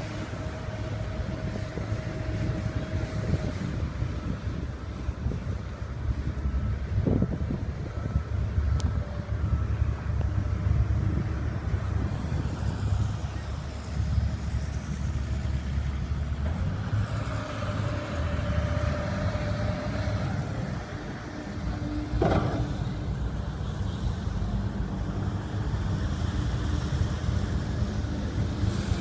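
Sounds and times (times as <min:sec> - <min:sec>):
dump truck running: 0:00.0 - 0:29.0
excavator diesel engine rumble: 0:00.0 - 0:29.0.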